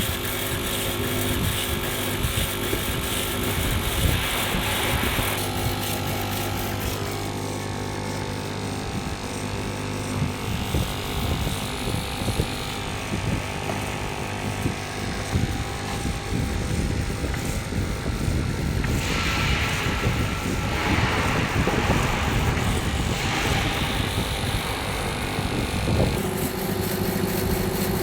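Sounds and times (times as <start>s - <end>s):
stone cutting machine motor hum: 0.0s - 28.0s.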